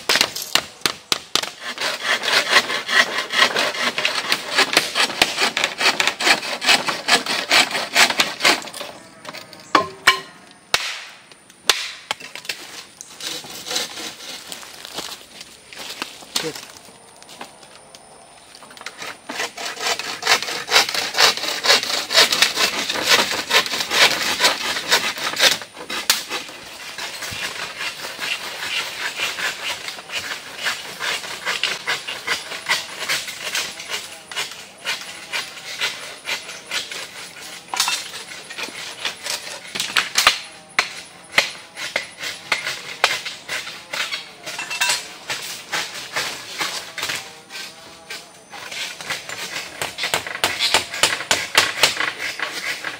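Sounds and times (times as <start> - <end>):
hand saw cutting wood: 0.1 - 11.0, 12.5 - 15.2, 18.8 - 52.9.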